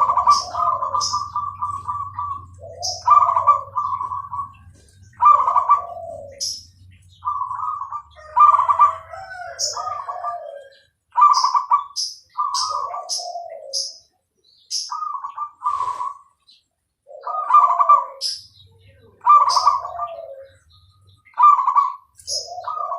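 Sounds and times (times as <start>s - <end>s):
dove cooing: 0.0s - 22.9s
small bird chirping: 0.0s - 22.9s.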